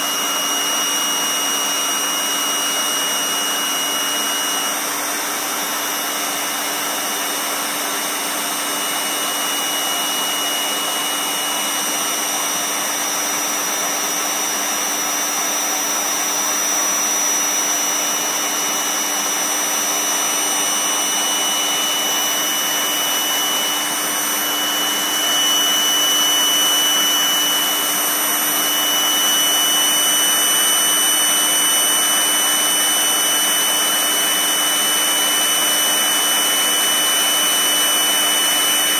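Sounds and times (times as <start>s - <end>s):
electric air pump whirring: 0.0s - 38.9s.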